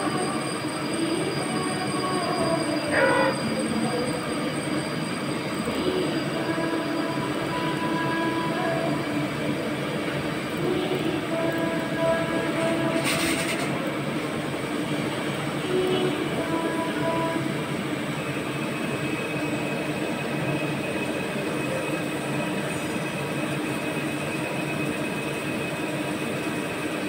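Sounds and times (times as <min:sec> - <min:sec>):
lathe machining noise: 0:00.0 - 0:27.0.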